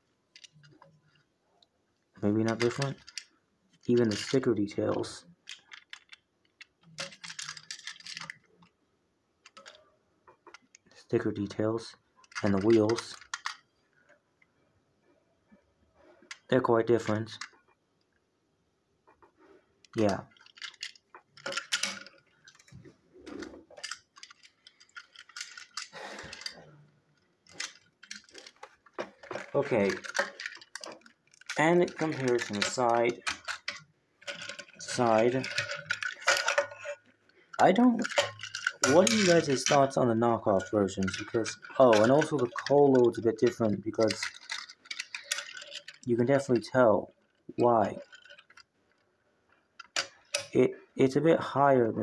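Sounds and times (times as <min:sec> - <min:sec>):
plastic toy parts rattling: 0:00.3 - 0:01.2, 0:02.2 - 0:08.8, 0:09.4 - 0:14.1, 0:16.2 - 0:17.7, 0:19.1 - 0:52.0.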